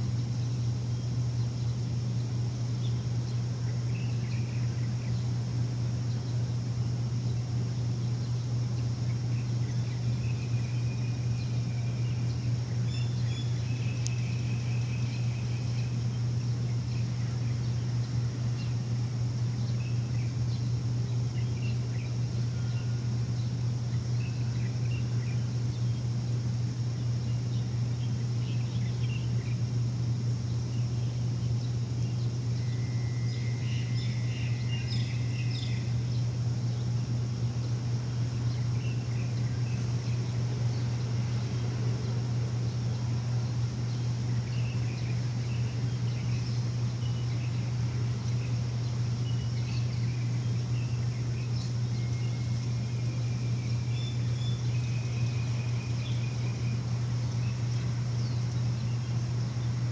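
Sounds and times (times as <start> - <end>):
birds chirping and trilling: 0.0 - 59.9
machine humming: 0.0 - 59.9.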